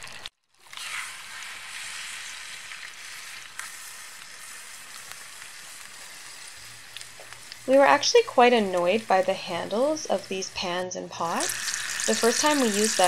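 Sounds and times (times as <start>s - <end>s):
steak sizzling in a pan: 0.0s - 10.4s, 11.2s - 13.0s.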